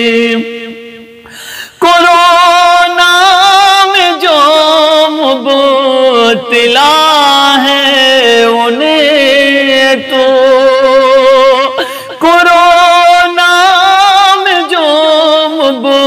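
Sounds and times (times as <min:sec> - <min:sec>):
man singing a devotional hymn: 0:00.0 - 0:16.0.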